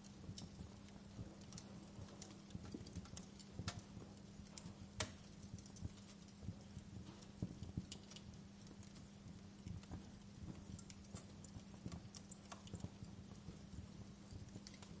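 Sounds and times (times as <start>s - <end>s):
fire crackling softly: 0.0s - 15.0s.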